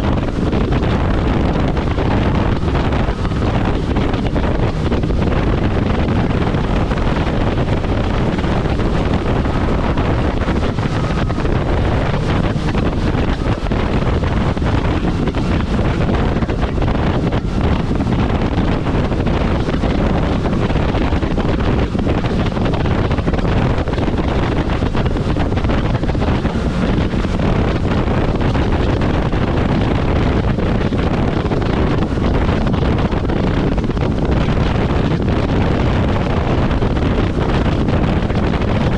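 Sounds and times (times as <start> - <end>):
jet ski engine: 0.0 - 38.9
wind buffeting on microphone: 0.0 - 38.9.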